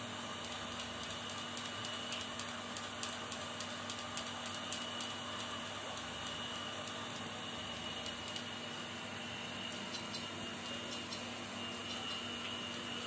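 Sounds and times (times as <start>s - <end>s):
small clicks and smacks: 0.4s - 7.3s, 7.9s - 8.5s, 9.7s - 12.8s.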